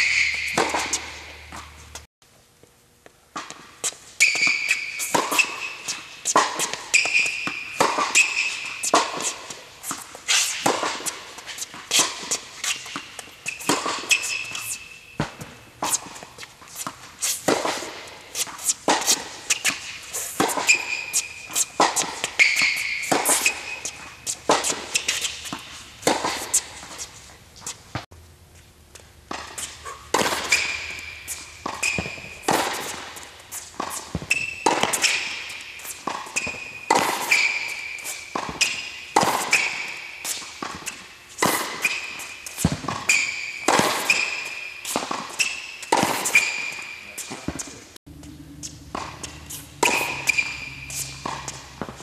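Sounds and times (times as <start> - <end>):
tennis ball bounces: 0.0 - 2.0, 3.3 - 27.0, 28.9 - 52.0
shoes squeaking on court: 0.0 - 2.1, 3.4 - 28.0, 28.6 - 52.0
tennis racket hits: 0.0 - 2.1, 3.4 - 28.0, 29.3 - 52.0.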